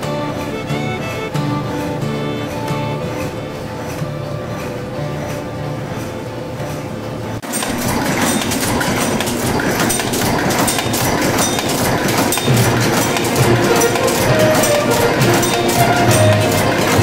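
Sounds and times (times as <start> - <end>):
rapid metallic clatter of machine: 0.0 - 17.0.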